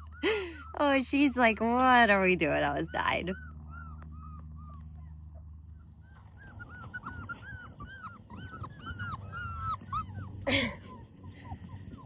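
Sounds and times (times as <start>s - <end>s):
puppies whimpering: 0.0s - 12.0s
steady low hum: 0.0s - 12.0s.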